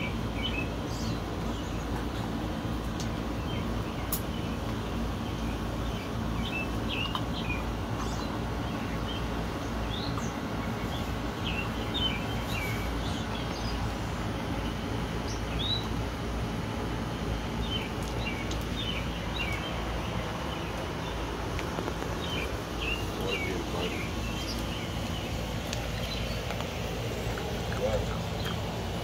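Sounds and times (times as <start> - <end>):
low background rumble: 0.0 - 29.0
small birds chirping: 0.0 - 29.0.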